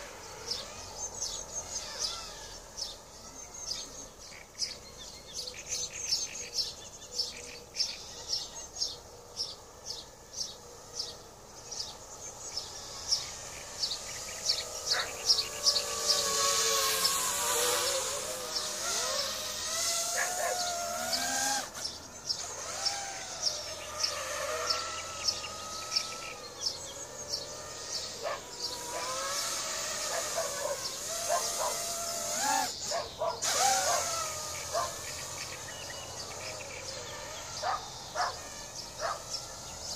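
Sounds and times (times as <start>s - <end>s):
bird chirping: 0.0s - 39.9s
quadcopter propeller whine: 0.0s - 39.9s.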